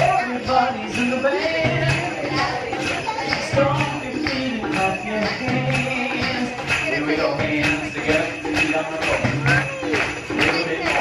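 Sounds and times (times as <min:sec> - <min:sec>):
jingle bells shaken to a beat: 0:00.0 - 0:11.0
voices: 0:00.0 - 0:11.0.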